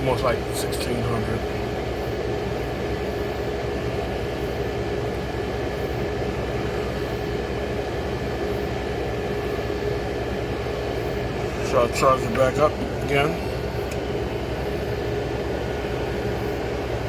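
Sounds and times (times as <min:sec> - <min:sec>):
air conditioner running: 0:00.0 - 0:17.0.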